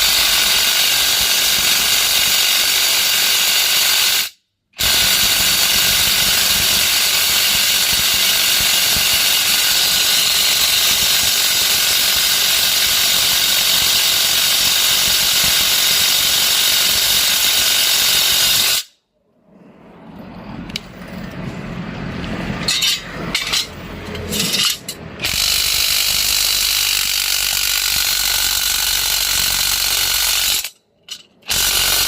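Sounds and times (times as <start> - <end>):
electric impact wrench running: 0.0 - 18.9, 24.4 - 32.0.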